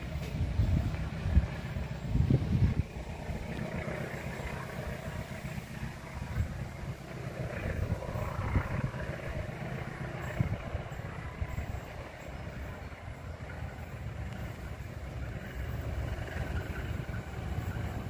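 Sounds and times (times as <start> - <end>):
distant diesel locomotive rumble: 0.0 - 18.0.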